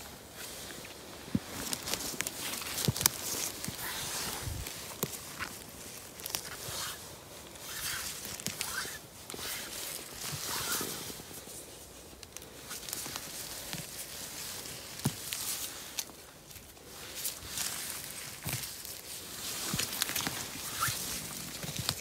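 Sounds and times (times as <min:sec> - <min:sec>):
rustling and snapping of forest floor: 0:00.0 - 0:22.0.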